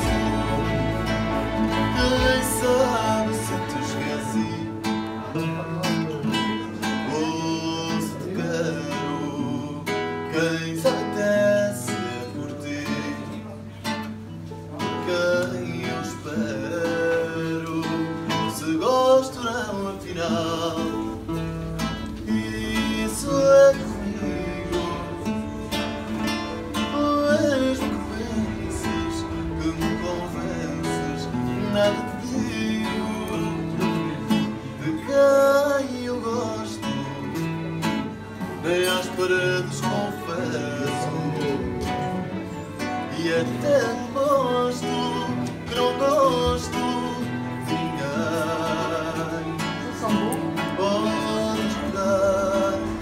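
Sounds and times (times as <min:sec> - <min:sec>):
acoustic guitar chords: 0:00.0 - 0:53.0
man singing: 0:00.0 - 0:53.0.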